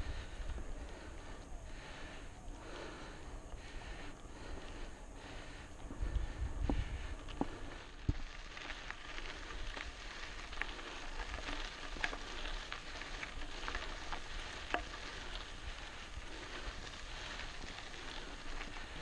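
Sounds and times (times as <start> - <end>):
bike tyres crunching gravel: 0.0 - 19.0.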